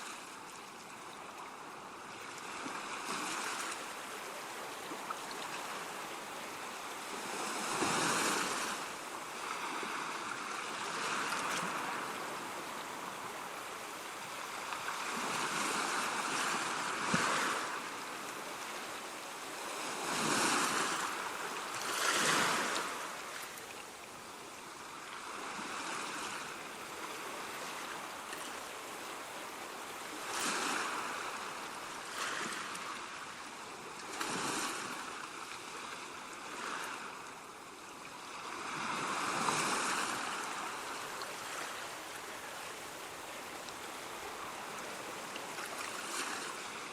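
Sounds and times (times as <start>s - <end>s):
sea waves breaking on shore: 0.0s - 46.9s.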